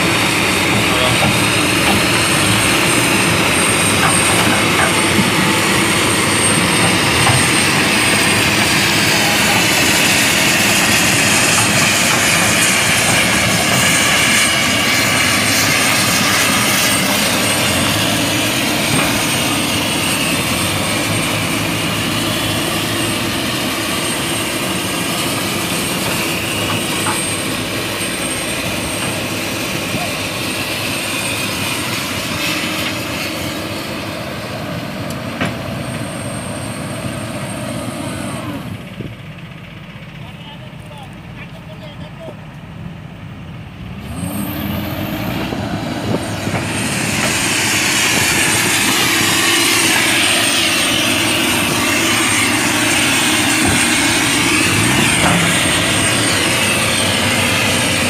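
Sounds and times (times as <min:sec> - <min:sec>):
excavator diesel engine and hydraulics: 0:00.0 - 0:58.0
steady high whine: 0:00.0 - 0:58.0.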